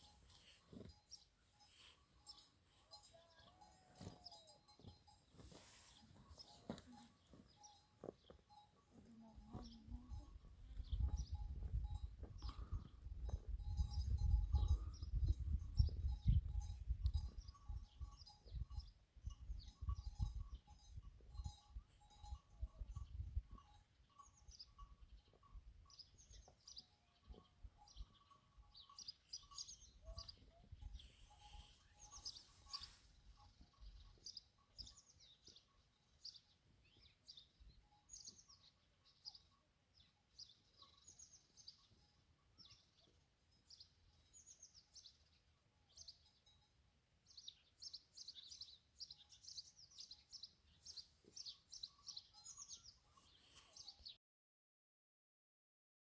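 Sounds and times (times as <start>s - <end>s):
small birds chirping: 0.0s - 46.6s, 47.3s - 54.2s.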